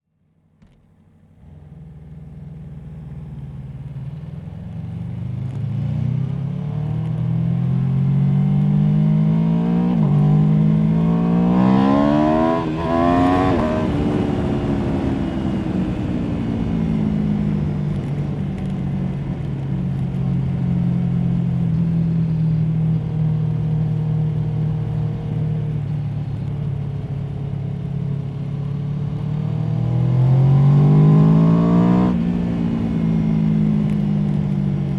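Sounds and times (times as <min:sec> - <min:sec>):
motorcycle engine revving: 0:00.6 - 0:34.9.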